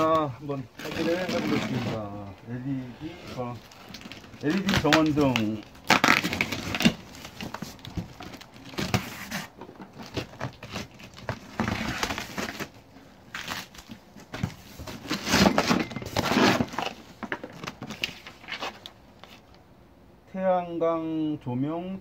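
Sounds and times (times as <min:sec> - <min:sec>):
cardboard and tape rustling: 0:00.0 - 0:19.6.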